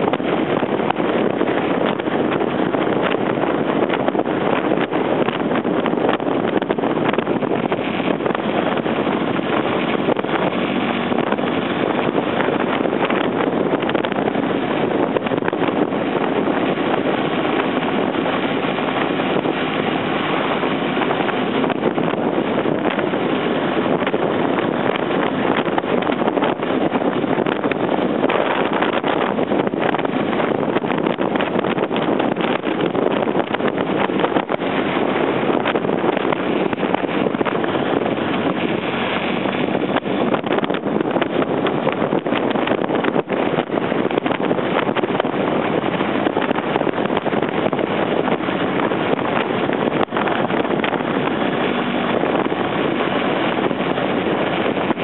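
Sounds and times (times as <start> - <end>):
road noise: 0.0 - 55.0
wind rushing over microphone: 0.0 - 55.0.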